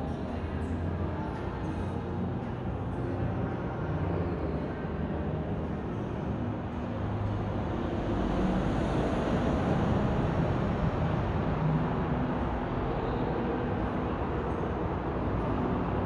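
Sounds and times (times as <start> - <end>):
city traffic rumble: 0.0 - 16.0
faint engine hum: 0.0 - 16.0.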